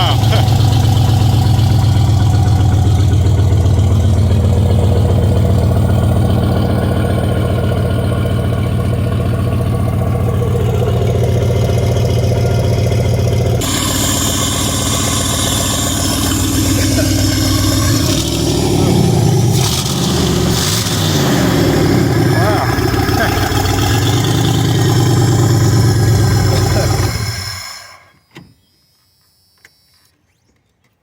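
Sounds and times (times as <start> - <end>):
bright hissing engine sound: 0.0 - 28.1
van engine idling: 0.0 - 28.1.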